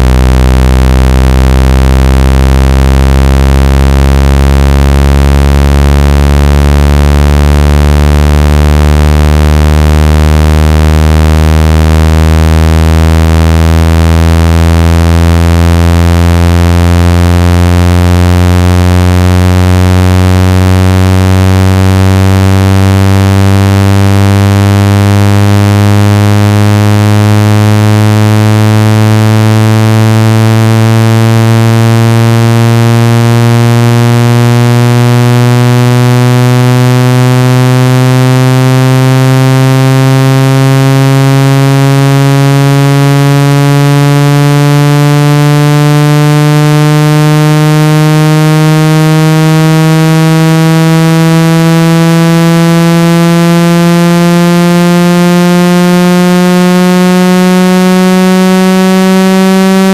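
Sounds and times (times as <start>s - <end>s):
rising synthesized buzz tone: 0.0s - 59.9s.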